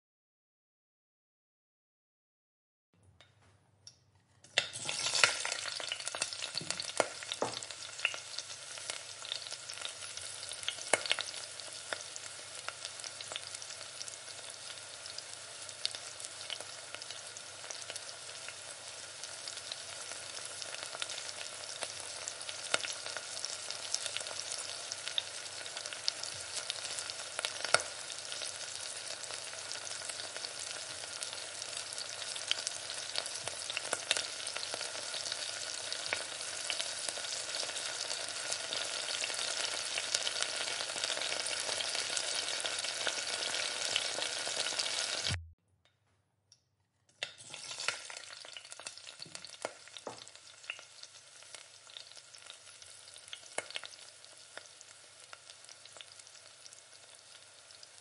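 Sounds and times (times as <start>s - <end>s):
garlic sizzling in hot oil: 4.5s - 45.4s, 47.2s - 58.0s.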